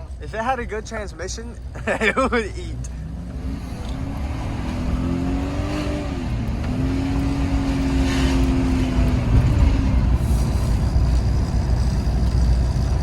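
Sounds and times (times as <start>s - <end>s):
car engine accelerating hard: 1.8s - 13.0s.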